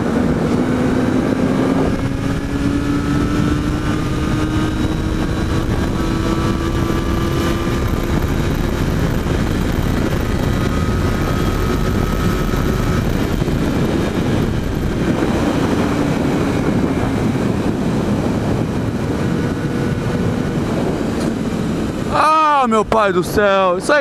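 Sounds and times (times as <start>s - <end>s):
motorcycle engine running: 0.0s - 22.6s
road noise: 0.0s - 24.0s
rushing wind: 0.0s - 24.0s.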